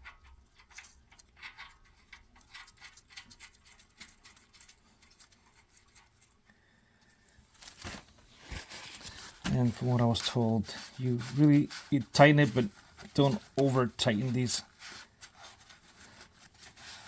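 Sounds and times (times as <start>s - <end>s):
small clicks and rustles: 0.0s - 17.0s.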